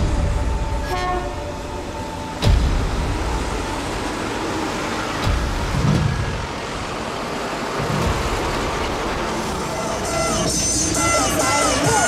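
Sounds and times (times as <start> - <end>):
diesel truck rumbling past: 0.0 - 12.0
road noise: 0.0 - 12.0.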